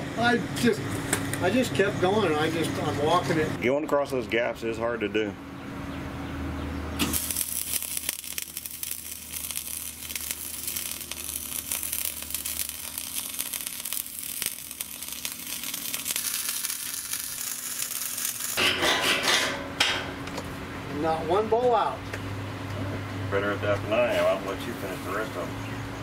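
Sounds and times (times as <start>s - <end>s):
arc welding crackling and sizzling: 0.0s - 3.7s, 6.9s - 25.4s.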